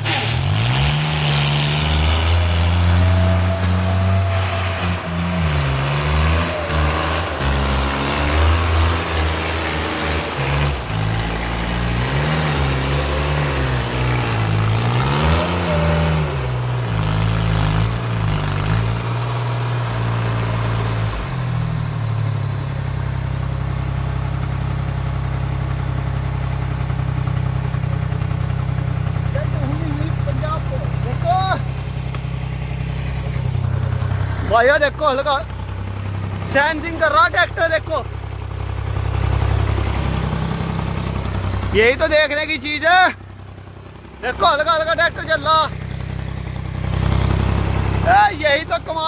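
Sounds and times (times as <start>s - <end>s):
tractor diesel engine revving: 0.0s - 49.0s.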